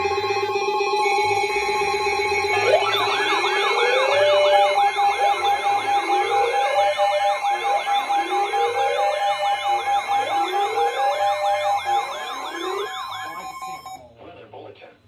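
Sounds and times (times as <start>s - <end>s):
electronic alert tone: 0.0s - 14.0s
sirens yelping and wailing: 0.0s - 14.0s.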